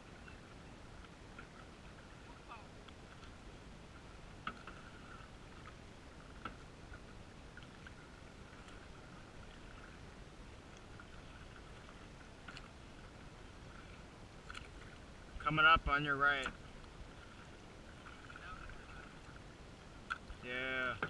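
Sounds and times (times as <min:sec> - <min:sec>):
canoe paddle strokes: 0:00.0 - 0:21.0.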